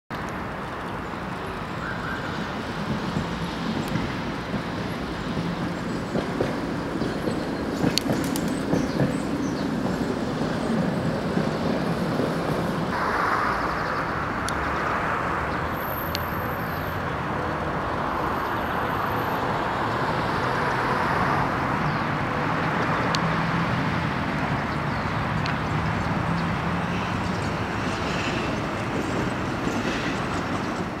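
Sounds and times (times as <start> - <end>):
street traffic noise: 0.1 - 31.0.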